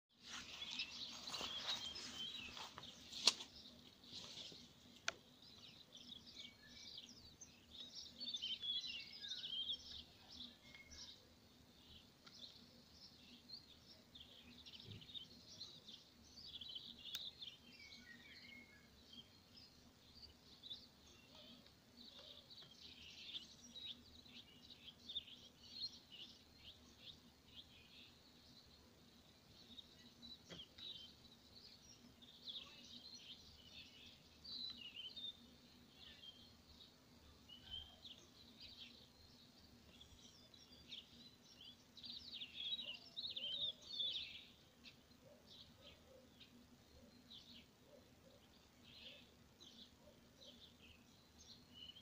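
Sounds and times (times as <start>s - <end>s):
small birds chirping: 0.1s - 52.0s.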